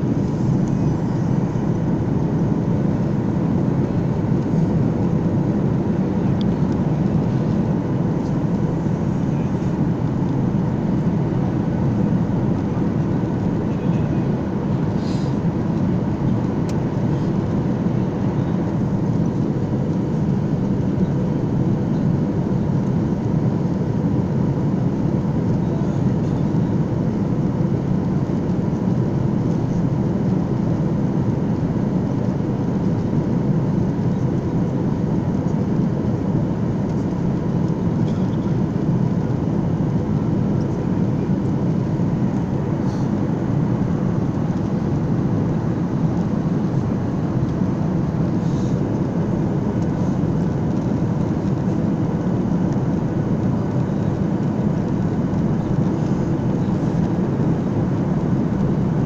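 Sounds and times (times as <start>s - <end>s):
airliner cabin engine and airflow roar: 0.0s - 59.0s
faint steady hum: 0.0s - 59.0s.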